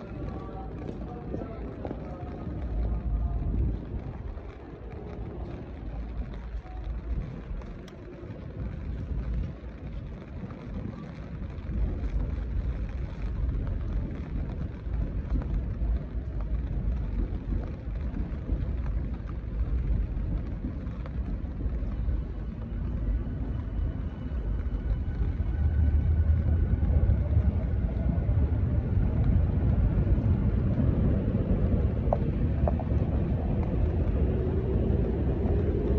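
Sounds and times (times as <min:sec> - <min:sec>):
low city rumble: 0:00.0 - 0:35.9.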